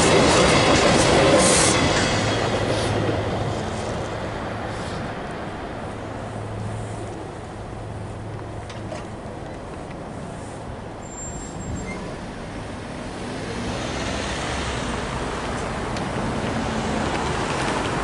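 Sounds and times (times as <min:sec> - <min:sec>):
tyre noise on road: 0:00.0 - 0:18.0
car engines: 0:02.4 - 0:18.0.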